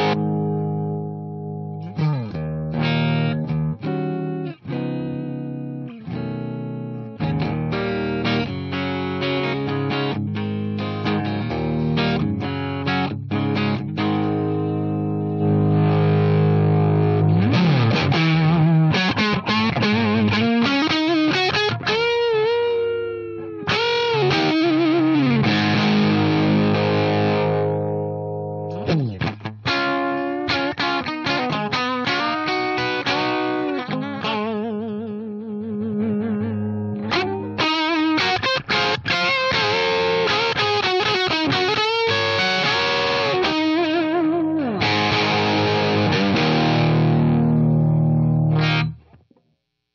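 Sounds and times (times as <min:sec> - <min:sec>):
overdriven electric guitar lead: 0:00.0 - 0:49.3.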